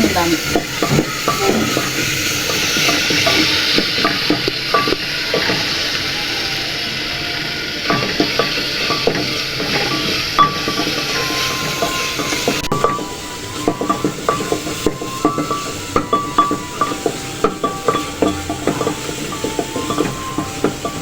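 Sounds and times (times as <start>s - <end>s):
spoon scraping and knocking pan: 0.0s - 5.8s, 7.9s - 21.0s
spice paste sizzling in oil: 0.0s - 21.0s.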